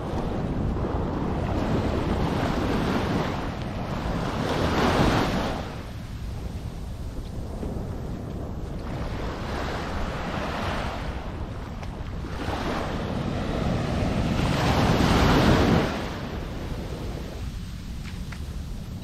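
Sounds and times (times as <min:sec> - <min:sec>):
waves washing onto beach: 0:00.0 - 0:19.0
wind rumble on microphone: 0:00.0 - 0:19.0.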